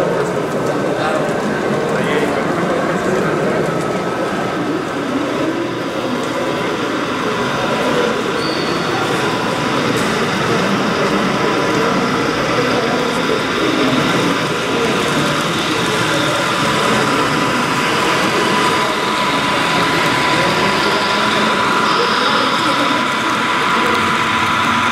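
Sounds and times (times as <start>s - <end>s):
many people talking: 0.0s - 24.9s
model trains running: 0.0s - 24.9s.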